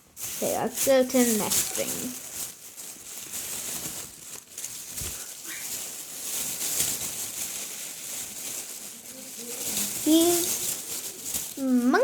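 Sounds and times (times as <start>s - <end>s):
rustling shopping bag: 0.0s - 12.0s.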